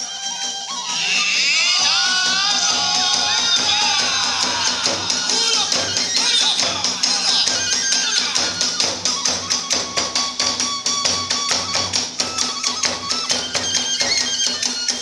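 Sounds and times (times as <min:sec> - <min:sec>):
bamboo flute melody: 0:00.0 - 0:15.0
drums: 0:00.0 - 0:15.0
small hand cymbals: 0:00.0 - 0:15.0.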